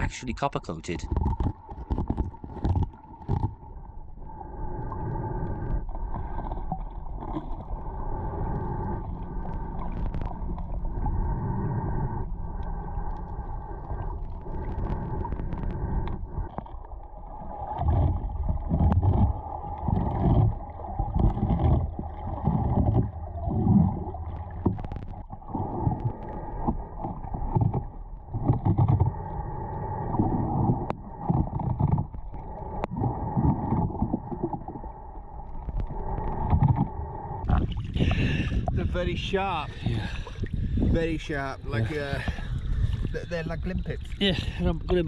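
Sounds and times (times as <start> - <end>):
underwater water surges: 0.0 - 45.0
steady hum: 7.4 - 45.0.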